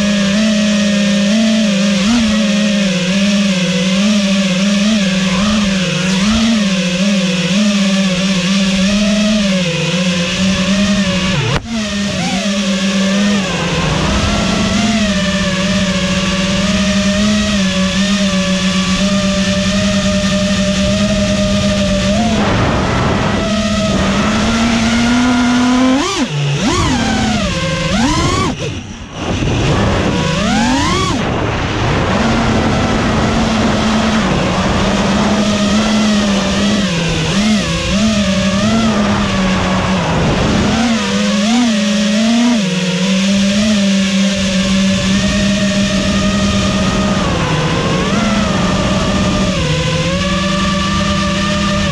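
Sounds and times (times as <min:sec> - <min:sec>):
drone motors buzzing: 0:00.0 - 0:51.9.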